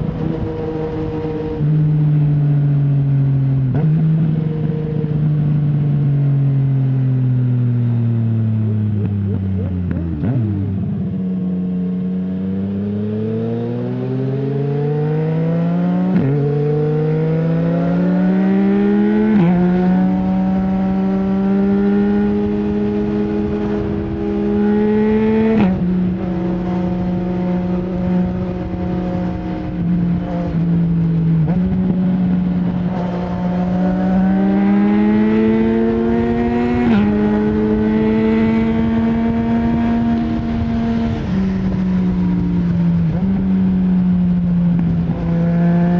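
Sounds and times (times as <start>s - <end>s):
motorcycle engine accelerating through gears: 0.0s - 45.9s.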